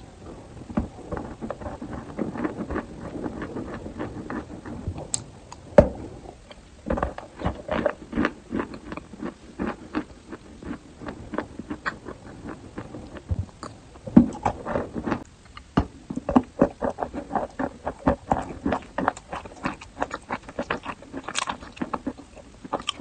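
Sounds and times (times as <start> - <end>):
crunching and chewing chalk: 0.2 - 23.0.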